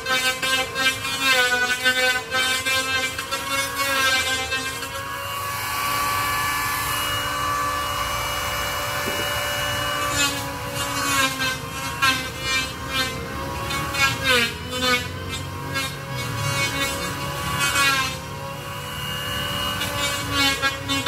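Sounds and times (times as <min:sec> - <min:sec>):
power tool against wood: 0:00.0 - 0:21.0.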